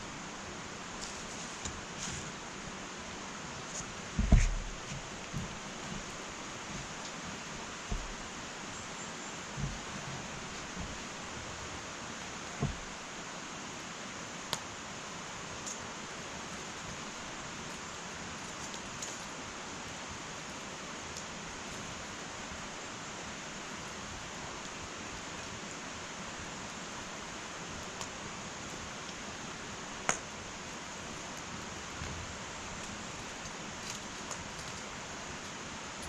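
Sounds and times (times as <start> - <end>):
fire crackles and pops: 0.0 - 36.0
wood fire hissing: 0.0 - 36.0.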